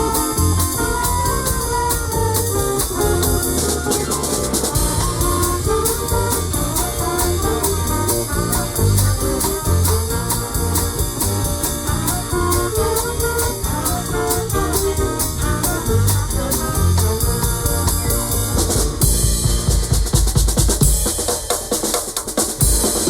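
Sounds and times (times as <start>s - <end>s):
guitar: 0.0s - 20.3s
bass: 0.0s - 23.0s
drum kit: 0.0s - 23.0s.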